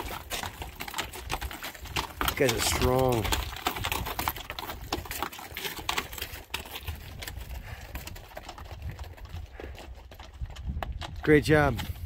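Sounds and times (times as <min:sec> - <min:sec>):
boots and poles on rocky trail: 0:00.0 - 0:12.0.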